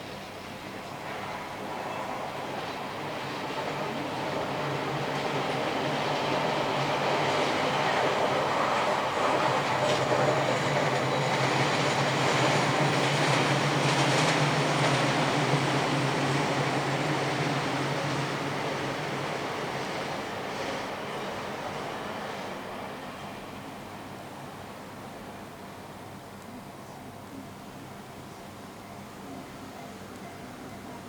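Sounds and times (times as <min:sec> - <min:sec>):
train passing: 0:00.0 - 0:26.2.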